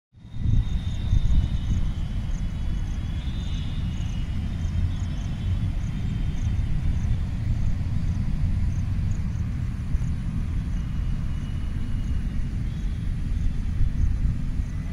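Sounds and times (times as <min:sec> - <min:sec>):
wind buffeting microphone: 0:00.2 - 0:14.9.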